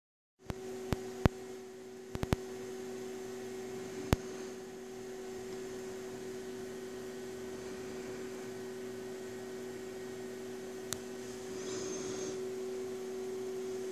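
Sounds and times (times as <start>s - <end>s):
low hum with hiss: 0.4s - 13.9s.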